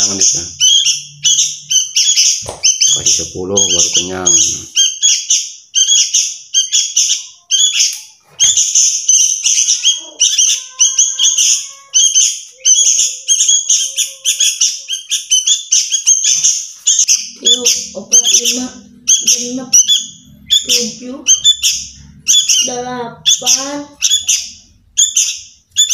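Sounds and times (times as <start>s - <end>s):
bird chicks begging calls: 0.0s - 25.9s.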